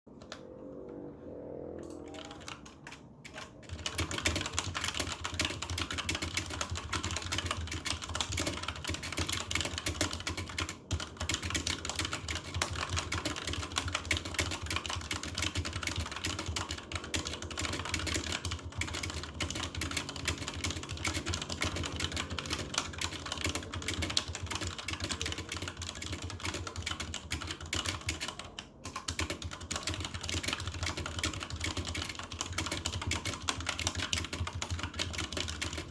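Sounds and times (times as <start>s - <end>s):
fast keyboard typing: 1.8s - 35.9s.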